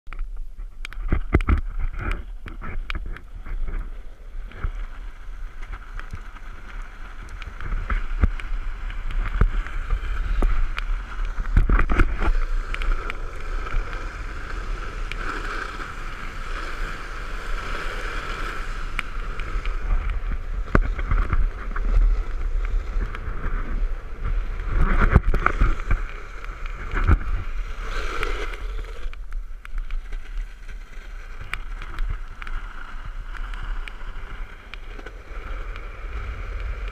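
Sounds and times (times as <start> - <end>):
skateboard wheels rolling: 0.2 - 36.9
wheels clacking over cracks: 0.2 - 36.9.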